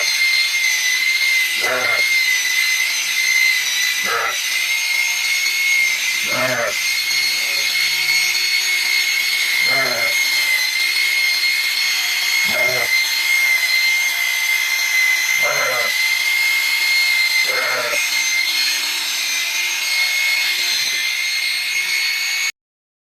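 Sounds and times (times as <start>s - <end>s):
power tool motor whine: 0.0s - 22.5s.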